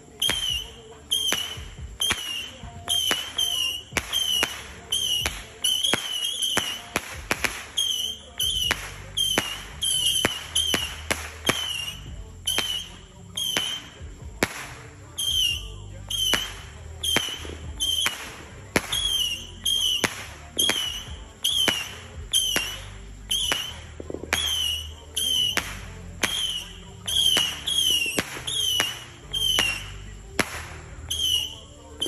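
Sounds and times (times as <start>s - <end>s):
firework shots cracking and whistling: 0.0s - 32.0s.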